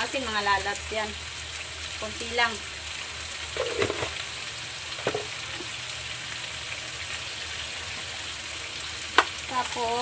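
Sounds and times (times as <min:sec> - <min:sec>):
shrimp sizzling in a wok: 0:00.0 - 0:10.0.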